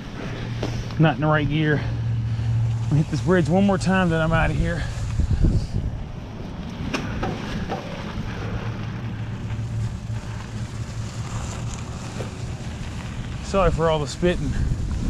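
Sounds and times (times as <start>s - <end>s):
bike tyres rolling on dirt: 0.0s - 15.0s
wind rumble on microphone: 2.2s - 15.0s.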